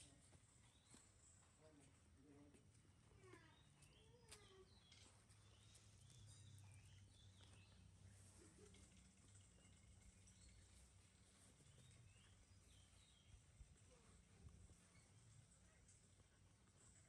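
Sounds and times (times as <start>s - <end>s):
faint high chirping calls: 3.2s - 17.0s.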